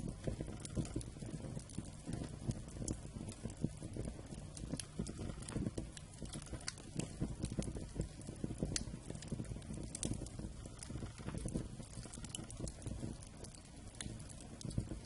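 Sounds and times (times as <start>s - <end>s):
flame rumbling: 0.0s - 15.0s
wood fire crackling: 0.0s - 15.0s.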